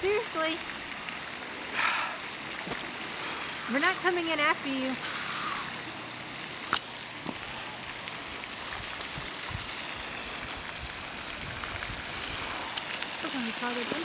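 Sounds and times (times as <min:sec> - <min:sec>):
water splashing from swimming: 0:00.0 - 0:14.0.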